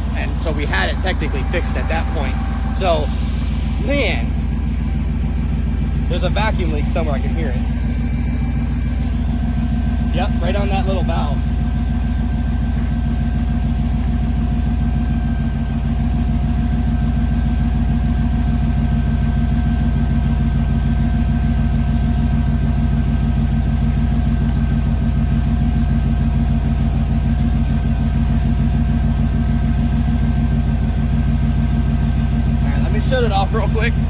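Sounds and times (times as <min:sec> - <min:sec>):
engine idling: 0:00.0 - 0:34.0
hissing whistle of vacuum leak: 0:00.1 - 0:34.0.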